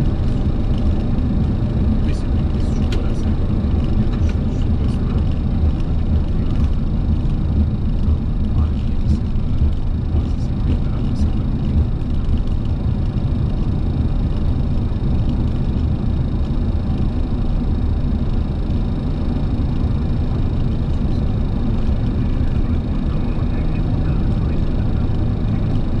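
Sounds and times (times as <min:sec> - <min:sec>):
airliner rolling on runway rumble: 0:00.0 - 0:26.0.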